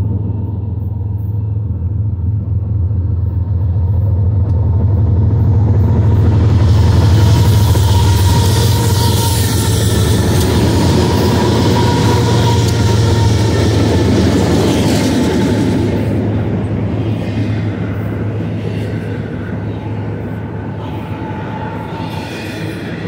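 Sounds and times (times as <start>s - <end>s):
diesel locomotive engine drone: 0.0s - 23.0s
train cars rolling on rails: 0.0s - 23.0s.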